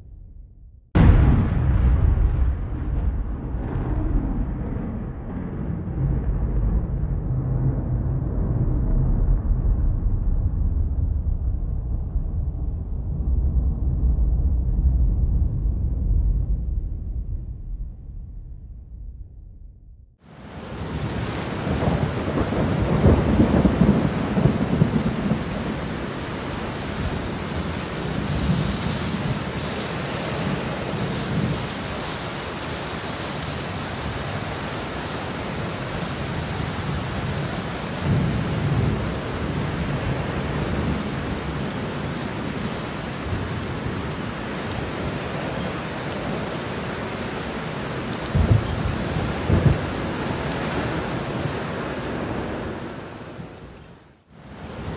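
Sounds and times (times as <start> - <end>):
fire crackling and rumbling: 0.0 - 54.9.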